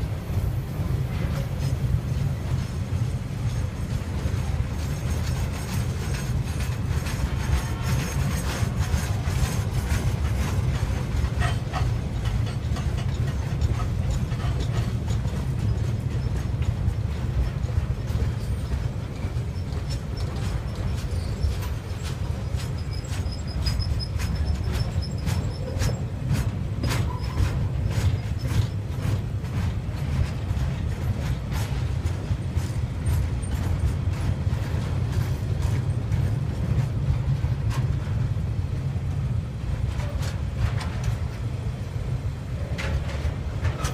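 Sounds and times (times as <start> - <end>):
train wheels rumbling on rails: 0.0 - 43.9
wheels clicking and clacking: 1.2 - 43.9.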